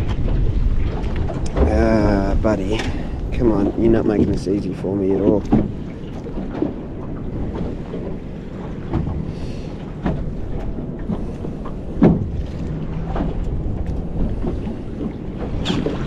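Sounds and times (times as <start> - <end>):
water lapping against boat hull: 0.0 - 16.0
wind: 0.0 - 16.0.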